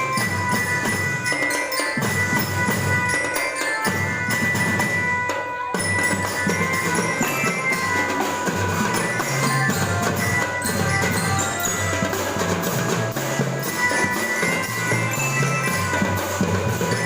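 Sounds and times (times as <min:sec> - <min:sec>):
drums beating: 0:00.0 - 0:17.0
sustained melodic notes: 0:00.0 - 0:17.0.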